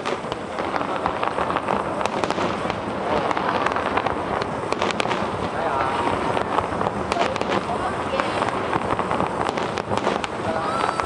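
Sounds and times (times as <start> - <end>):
fireworks popping and crackling: 0.0 - 11.0
steady noise haze: 0.0 - 11.0.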